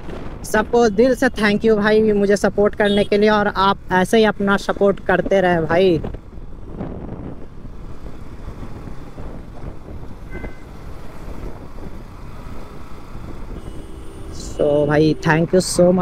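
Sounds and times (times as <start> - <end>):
wind buffeting microphone: 0.0 - 0.8, 3.7 - 16.0
vehicle rumble: 0.0 - 16.0.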